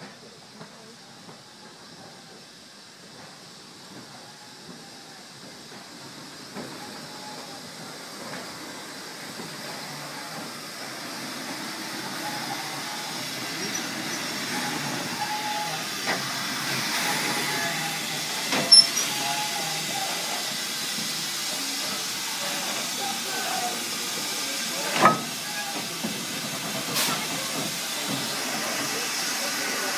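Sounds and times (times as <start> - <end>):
steam hissing: 0.0 - 29.9.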